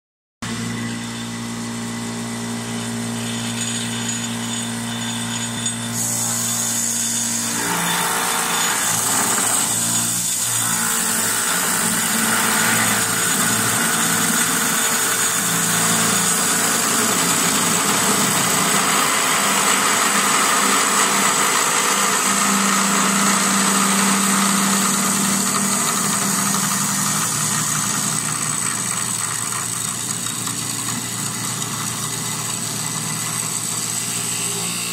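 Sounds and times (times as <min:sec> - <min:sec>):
lathe motor running: 0:00.4 - 0:34.9
cutter hissing into wood: 0:04.0 - 0:34.9.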